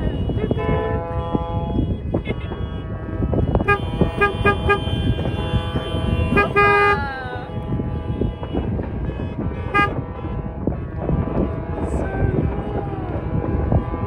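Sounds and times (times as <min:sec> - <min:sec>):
dense low rumble: 0:00.0 - 0:14.0
vehicle horns honking: 0:00.0 - 0:14.0.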